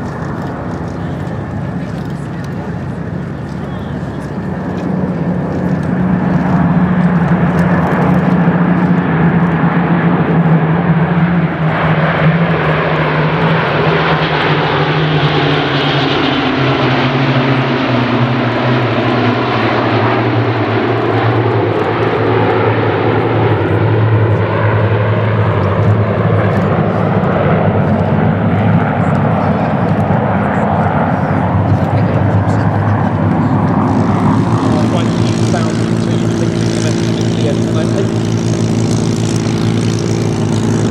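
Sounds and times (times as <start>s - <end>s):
jet noise: 0.0s - 40.9s
piston engines droning: 0.0s - 40.9s.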